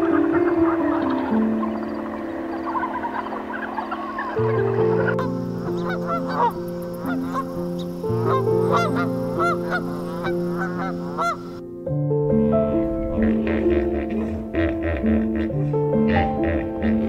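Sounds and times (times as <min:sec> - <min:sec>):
geese honking: 0:00.0 - 0:11.6, 0:12.8 - 0:17.0
piano music: 0:00.0 - 0:17.0.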